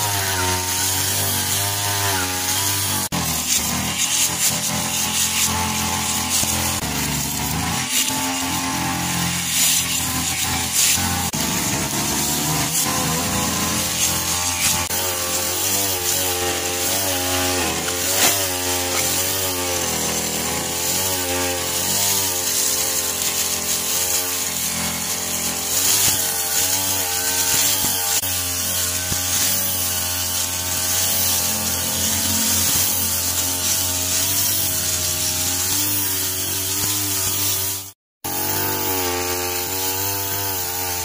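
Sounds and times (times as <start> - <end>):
brush cutter engine at high revs: 0.0 - 41.0.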